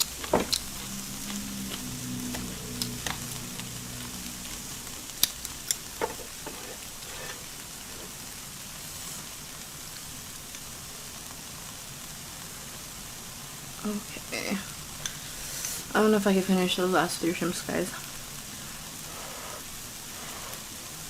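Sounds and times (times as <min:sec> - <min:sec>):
food sizzling on a grill: 0:00.0 - 0:21.0.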